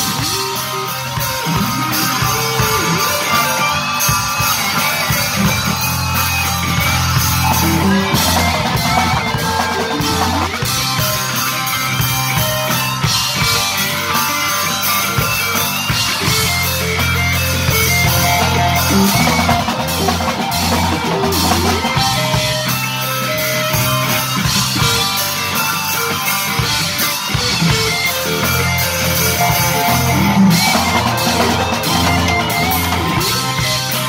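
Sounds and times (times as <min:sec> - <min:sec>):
drum kit: 0:00.0 - 0:34.0
electric guitars: 0:00.0 - 0:34.0.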